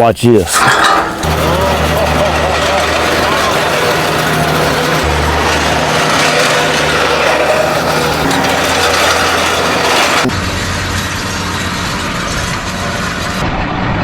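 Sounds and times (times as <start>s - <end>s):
tractor engine under load: 0.0s - 13.4s
rake teeth scraping gravel: 0.4s - 13.2s.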